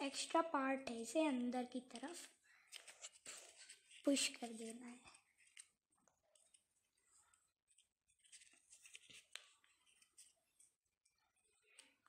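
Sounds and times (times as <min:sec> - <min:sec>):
paper rustling and crackling: 0:01.8 - 0:12.0.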